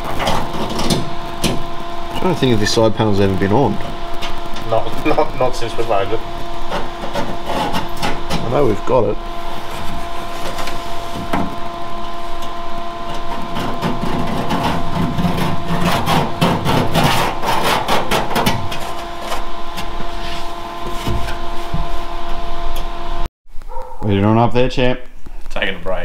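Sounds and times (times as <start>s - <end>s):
metal scraping sheet steel: 0.0s - 21.7s
electrical hum: 0.0s - 26.0s.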